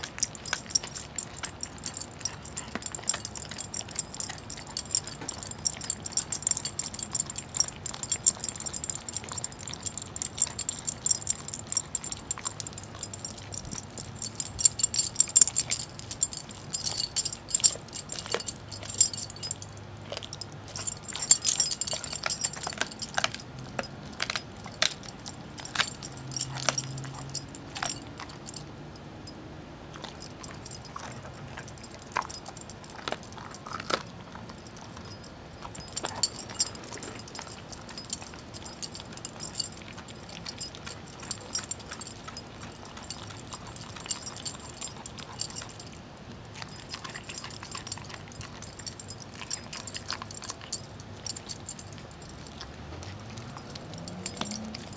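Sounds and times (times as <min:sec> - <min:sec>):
dog gnawing and crunching bone: 0:00.0 - 0:28.8, 0:29.9 - 0:54.9
collar tags jingling: 0:00.0 - 0:29.4, 0:30.0 - 0:54.9.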